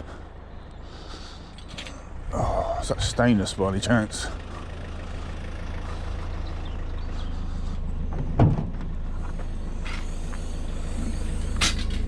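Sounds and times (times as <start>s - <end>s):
van engine running: 0.0s - 12.0s.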